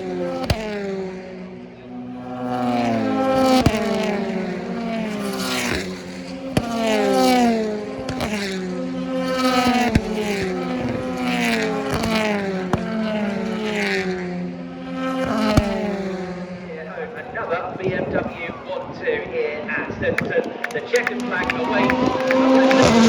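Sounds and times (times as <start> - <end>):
racing cars passing at speed: 0.0 - 23.0.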